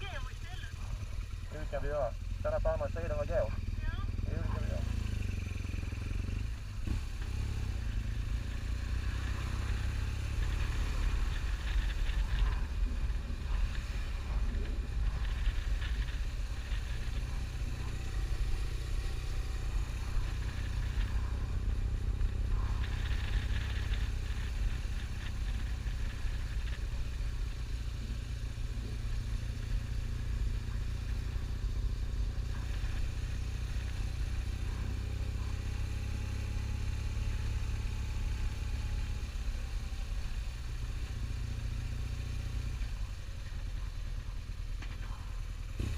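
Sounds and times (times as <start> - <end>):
motorcycle engine: 0.0 - 45.9.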